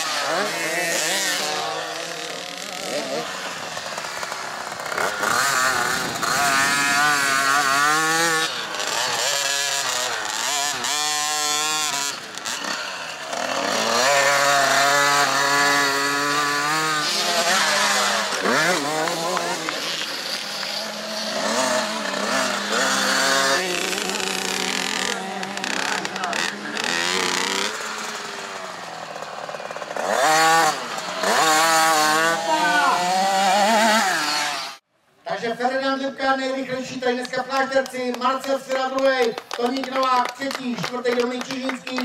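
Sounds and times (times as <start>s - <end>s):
mini motocross bikes revving: 0.0s - 42.0s.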